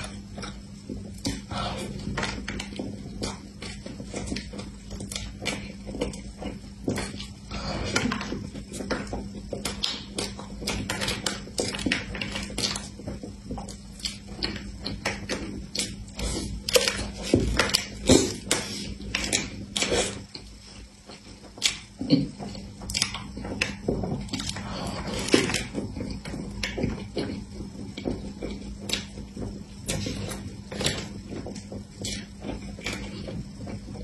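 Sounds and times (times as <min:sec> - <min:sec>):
wet chewing smacks and clicks: 0:00.0 - 0:34.0.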